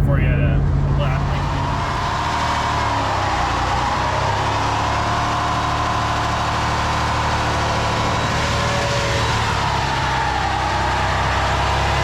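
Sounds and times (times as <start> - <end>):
pickup truck engine droning: 0.0 - 12.0.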